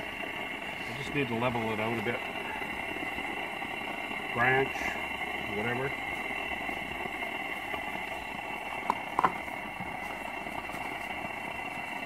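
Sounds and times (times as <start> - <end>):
camp stove hissing: 0.0 - 12.0.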